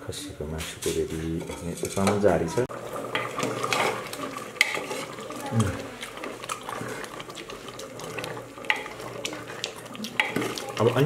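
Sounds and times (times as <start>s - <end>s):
ladle clinking and scraping pot: 0.8s - 11.0s
thick gravy slopping: 1.4s - 11.0s.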